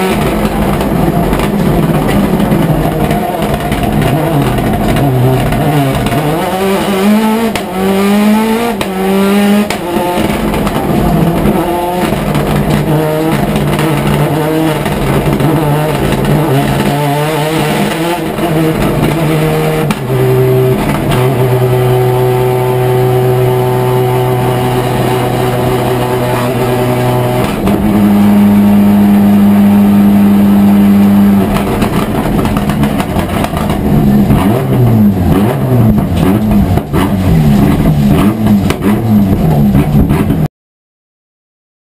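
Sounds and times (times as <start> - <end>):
race car engine at high revs: 0.0 - 40.5.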